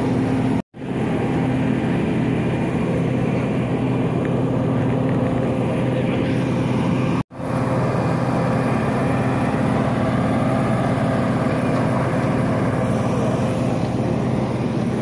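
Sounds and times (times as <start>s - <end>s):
constant low hum: 0.0s - 15.0s
engines droning: 0.0s - 15.0s.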